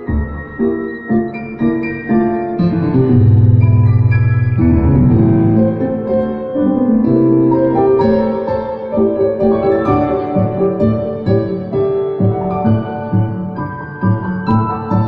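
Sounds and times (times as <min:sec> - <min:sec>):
pianos playing: 0:00.0 - 0:15.0.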